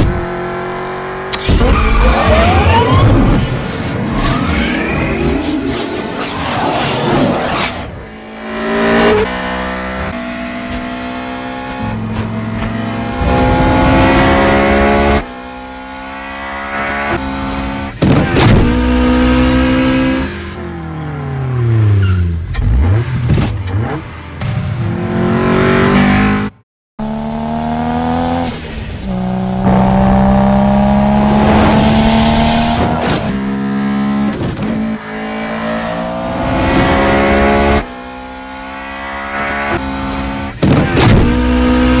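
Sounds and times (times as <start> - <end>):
engine revving: 0.0 - 42.0
sports car engine accelerating: 7.8 - 42.0.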